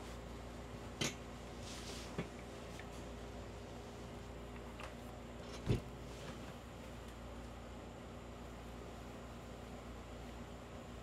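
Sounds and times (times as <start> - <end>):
faint high whine: 0.0 - 11.0
faint low hum: 0.0 - 11.0.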